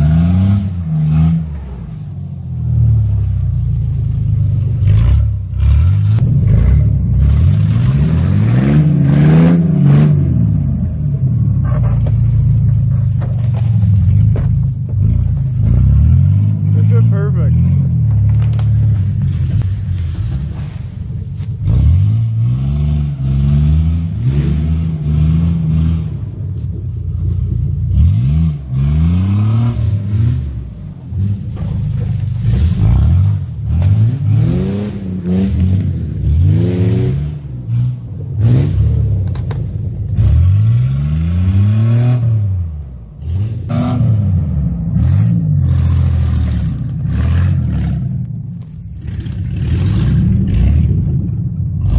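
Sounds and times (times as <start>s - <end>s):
vehicle engine revving: 0.0s - 51.9s.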